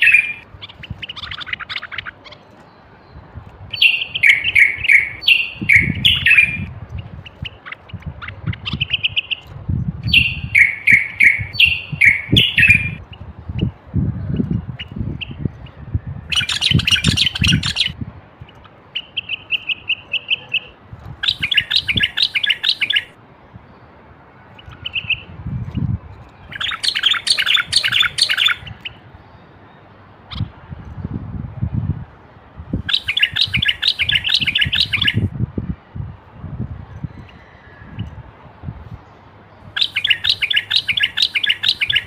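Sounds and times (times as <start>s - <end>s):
bird chattering song: 0.0s - 23.2s, 24.6s - 30.5s, 32.9s - 35.3s, 39.6s - 42.0s.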